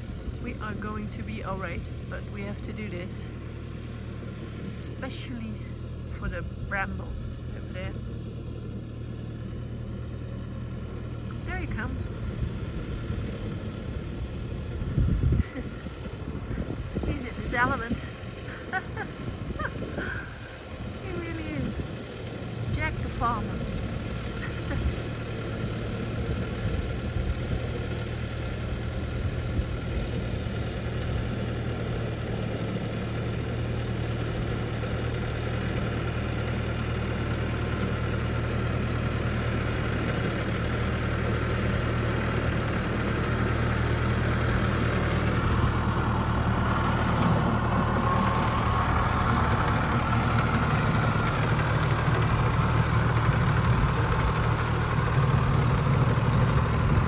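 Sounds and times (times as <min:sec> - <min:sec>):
tractor diesel engine pulling mower: 0:00.0 - 0:57.0.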